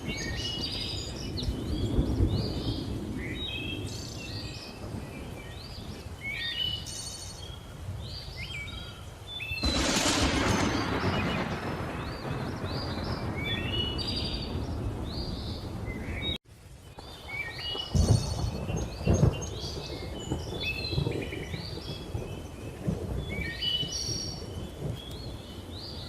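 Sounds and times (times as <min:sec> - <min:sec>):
thunder rumbling: 0:00.0 - 0:06.2, 0:09.6 - 0:16.4, 0:17.0 - 0:26.0.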